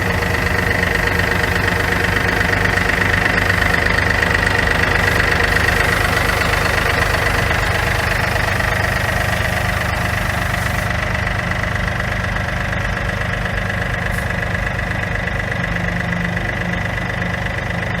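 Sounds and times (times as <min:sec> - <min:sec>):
diesel tractor engine idling: 0:00.0 - 0:18.0.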